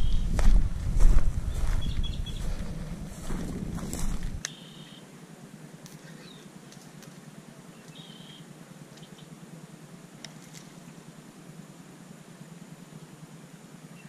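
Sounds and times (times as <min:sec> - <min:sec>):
lakeside background noise: 0:00.0 - 0:14.0.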